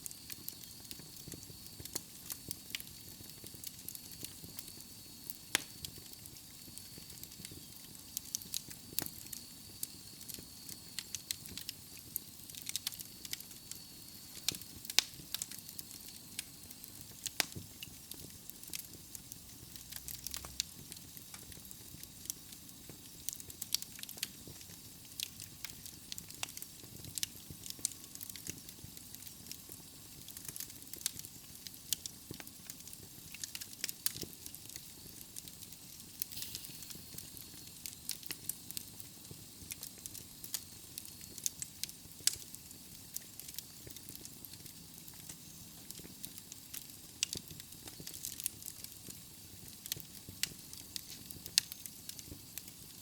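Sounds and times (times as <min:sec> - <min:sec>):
soft fire hiss: 0:00.0 - 0:53.0
logs crackling and popping: 0:00.1 - 0:53.0.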